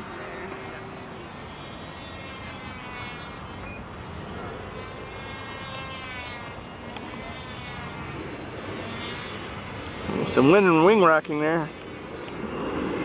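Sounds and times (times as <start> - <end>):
model airplane motor whine: 0.0 - 13.0
outdoor background hiss: 0.0 - 13.0.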